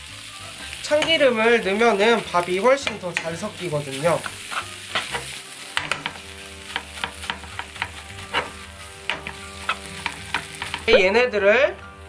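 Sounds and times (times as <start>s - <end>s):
light sizzle: 0.0s - 12.0s
metal ladle scraping a pan: 0.6s - 11.0s.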